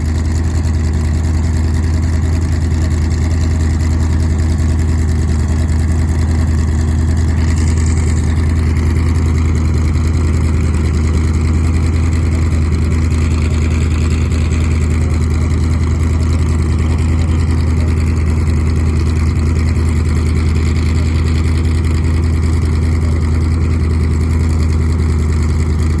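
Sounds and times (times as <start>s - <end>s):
car engines humming steadily: 0.0s - 26.0s.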